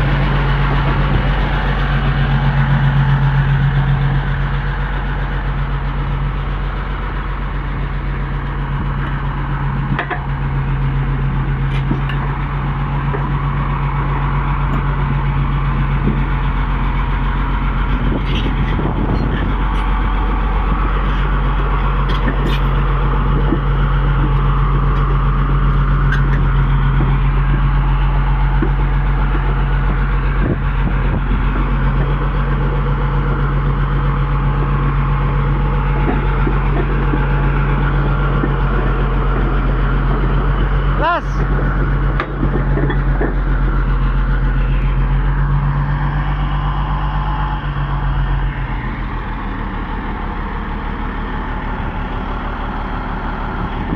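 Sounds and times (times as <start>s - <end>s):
bulldozer diesel engine droning: 0.0s - 53.9s.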